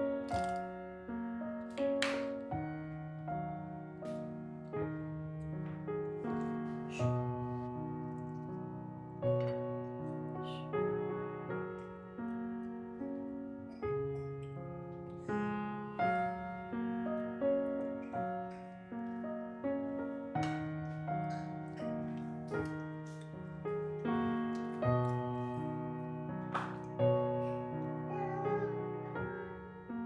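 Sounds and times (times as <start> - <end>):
gentle solo piano piece: 0.0 - 30.0.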